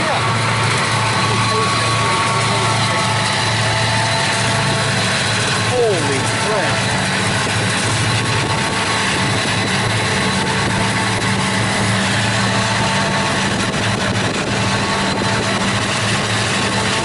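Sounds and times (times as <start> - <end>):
diesel locomotive engine drone: 0.0 - 17.0
train hum: 0.0 - 17.0.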